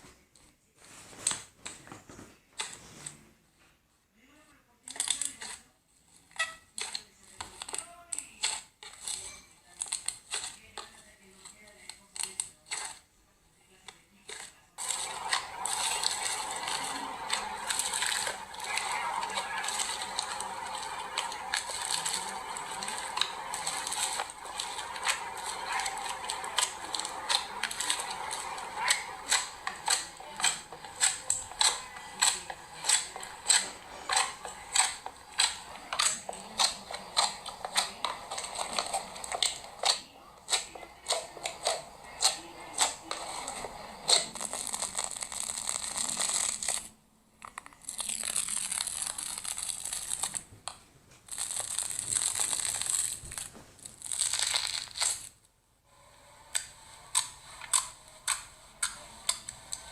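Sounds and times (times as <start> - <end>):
slime crackling and crinkling: 4.9 - 13.0, 14.2 - 55.4, 56.6 - 59.9.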